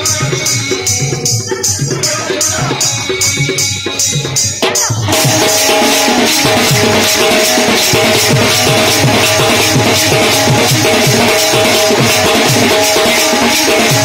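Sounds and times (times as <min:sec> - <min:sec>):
dance music with drum beat: 0:00.0 - 0:14.0.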